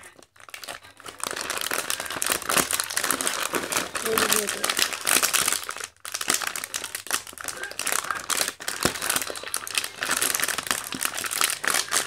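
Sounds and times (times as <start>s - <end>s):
plastic snack packet crinkling: 0.0s - 12.0s.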